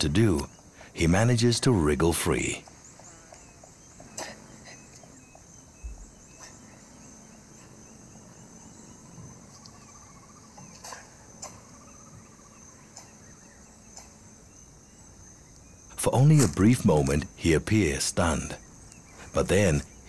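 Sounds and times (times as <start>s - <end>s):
faint trilling calls: 0.0s - 20.0s
high-pitched insect chorus: 0.0s - 20.0s.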